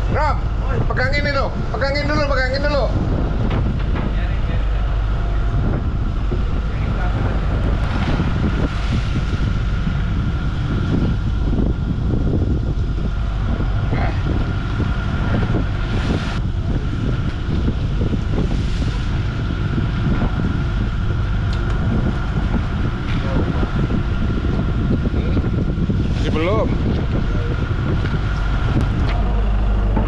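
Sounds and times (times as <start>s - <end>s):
boat motor rumbling: 0.0s - 30.0s
wind buffeting microphone: 0.0s - 30.0s.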